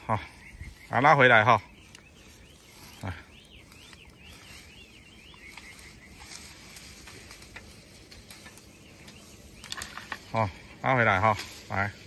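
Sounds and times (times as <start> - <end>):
faint clicks and rustles: 1.7 - 12.0.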